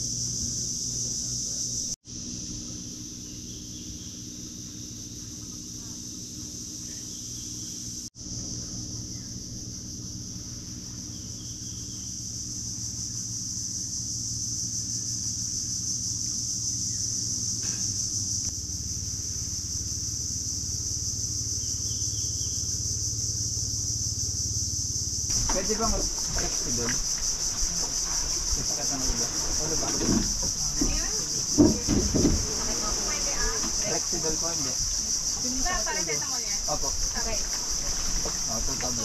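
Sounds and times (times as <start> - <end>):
insects chirring: 0.0 - 39.0
low motor hum: 0.0 - 39.0.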